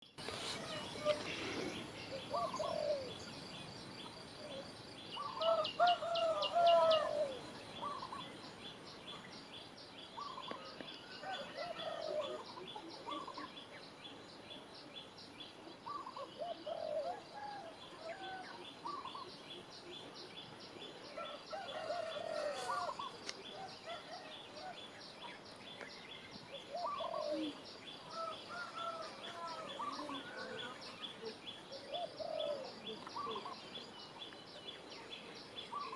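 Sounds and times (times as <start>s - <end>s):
bird warbling song: 0.0s - 35.9s.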